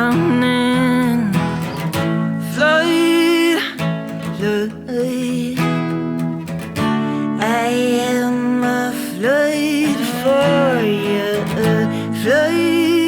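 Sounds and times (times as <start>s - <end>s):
strummed guitar: 0.0s - 13.0s.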